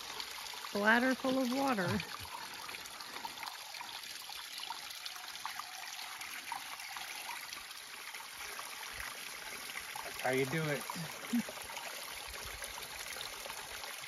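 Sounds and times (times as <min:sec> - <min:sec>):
stream trickling over rocks: 0:00.0 - 0:14.0
water running into plastic bladder: 0:00.0 - 0:14.0.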